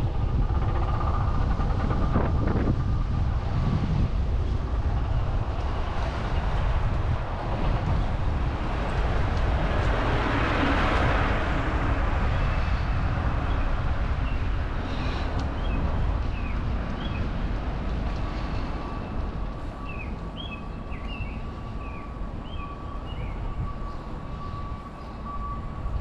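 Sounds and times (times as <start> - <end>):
street traffic rumble: 0.0 - 26.0.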